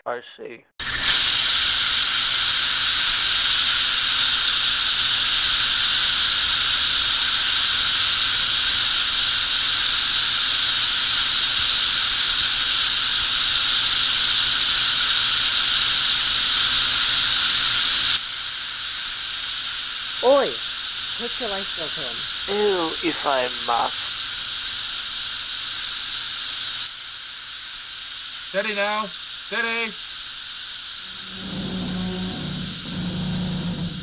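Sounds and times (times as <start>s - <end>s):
steam hissing from boilers: 0.8s - 34.0s.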